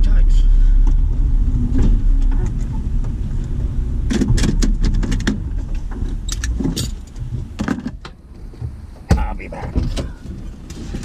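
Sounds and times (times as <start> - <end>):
vehicle engine rumble: 0.0 - 11.0
clicks and rattles in cab: 1.7 - 11.0.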